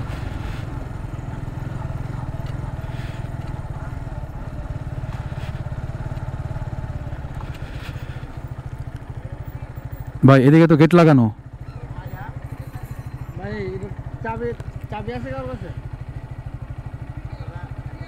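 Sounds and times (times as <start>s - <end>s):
motorcycle engine at low revs: 0.0s - 10.2s, 11.3s - 18.0s.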